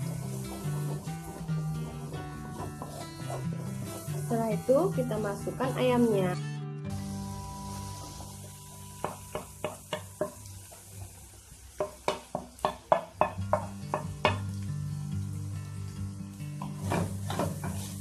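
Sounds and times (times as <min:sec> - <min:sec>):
chicken sizzling in a wok: 0:00.0 - 0:06.3, 0:06.9 - 0:18.0.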